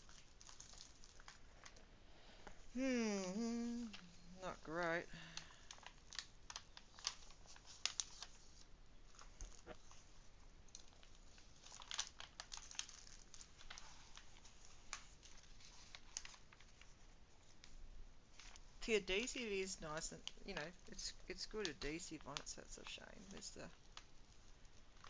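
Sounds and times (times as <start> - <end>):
plastic film crinkling: 0.0 - 1.8, 3.9 - 25.0.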